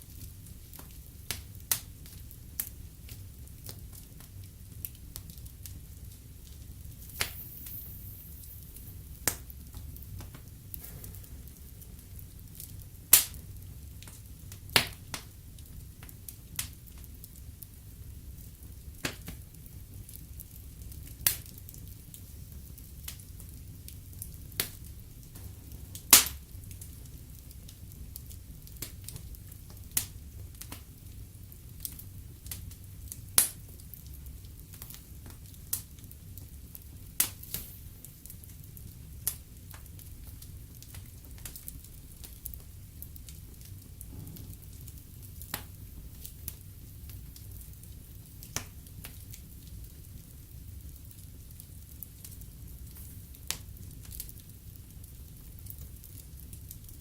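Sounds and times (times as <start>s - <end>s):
fire crackling pops: 0.0s - 57.0s
low rumble of flames: 0.0s - 57.0s.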